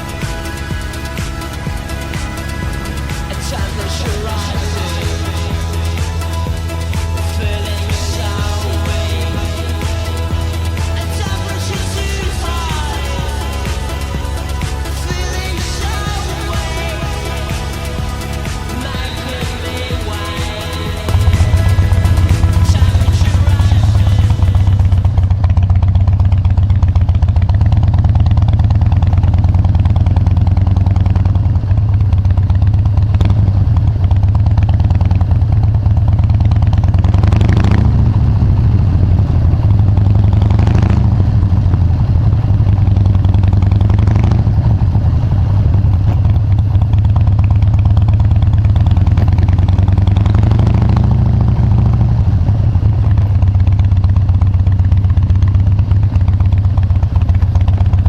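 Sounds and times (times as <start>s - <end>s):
motorcycle engine exhaust: 0.0s - 58.0s.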